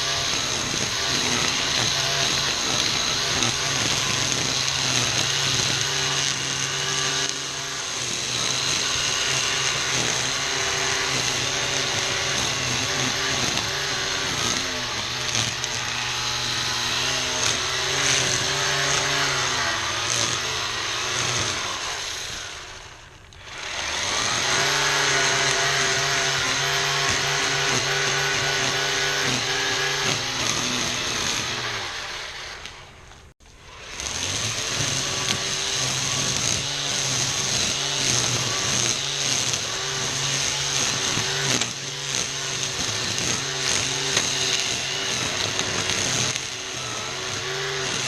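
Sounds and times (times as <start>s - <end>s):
string trimmer cutting weeds: 0.0s - 48.0s.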